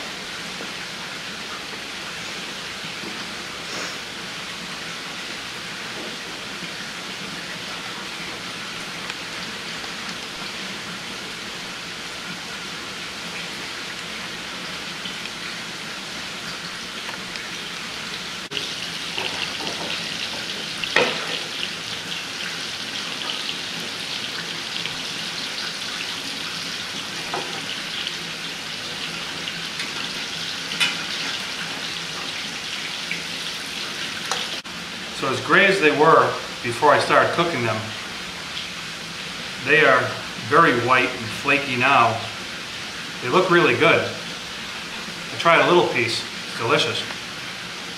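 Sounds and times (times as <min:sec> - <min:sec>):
fish frying in hot oil: 0:00.0 - 0:47.9.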